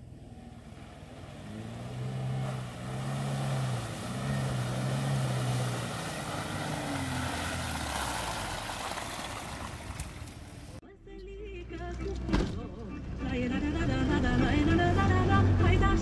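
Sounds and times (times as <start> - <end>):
off-road vehicle engine surging: 0.0 - 10.8, 11.6 - 16.0.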